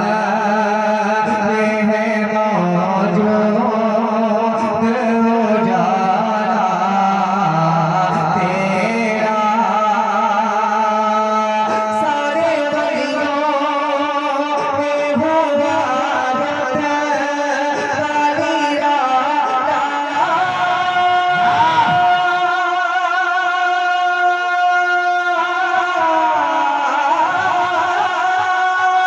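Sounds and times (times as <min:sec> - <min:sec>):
person singing wordless melody: 0:00.0 - 0:29.0.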